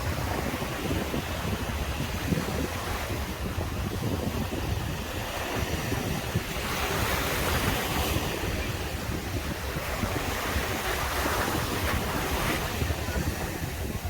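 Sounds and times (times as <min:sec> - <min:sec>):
surf breaking on beach: 0:00.0 - 0:14.0
wind on microphone: 0:00.0 - 0:14.0.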